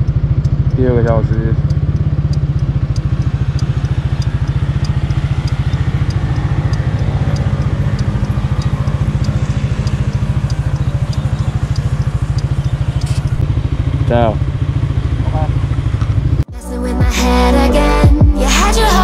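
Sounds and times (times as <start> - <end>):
light regular ticking: 0.0 - 16.5
scooter engine idling: 0.0 - 16.5.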